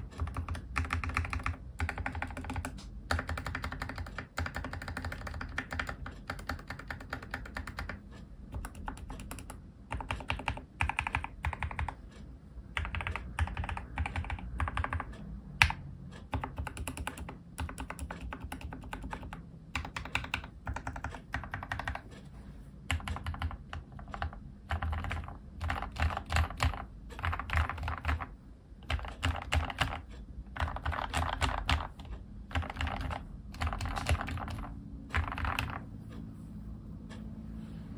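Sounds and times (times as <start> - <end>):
mechanical keyboard typing: 0.0 - 36.2.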